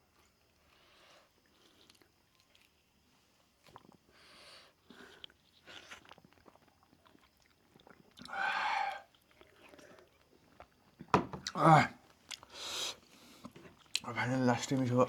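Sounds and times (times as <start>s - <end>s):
person chewing food: 0.1s - 14.1s.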